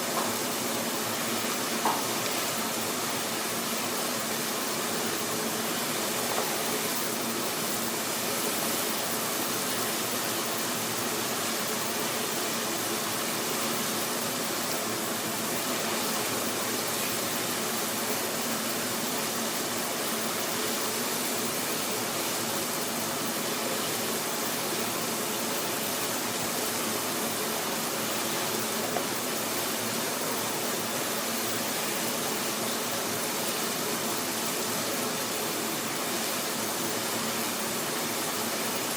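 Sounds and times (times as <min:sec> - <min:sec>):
water boiling: 0:00.0 - 0:38.9.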